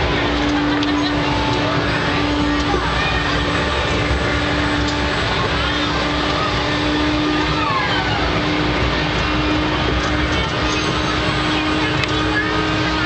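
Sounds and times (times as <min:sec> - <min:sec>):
loud even rumble: 0:00.0 - 0:13.0
low hum: 0:00.0 - 0:13.0.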